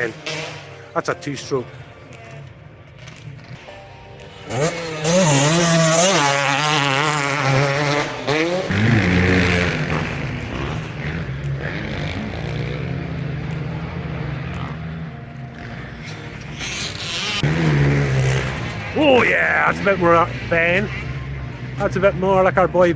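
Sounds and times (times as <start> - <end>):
dirt bike passing under throttle: 0.0 - 22.9
low steady engine note: 0.0 - 22.9.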